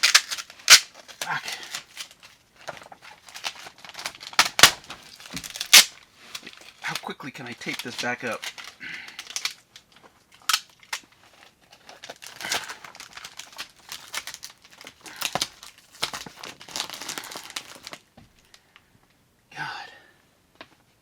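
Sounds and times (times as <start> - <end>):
tape pulled off roll and torn: 0.0 - 7.0, 7.6 - 9.6, 10.4 - 18.6
material crinkling: 0.0 - 18.6.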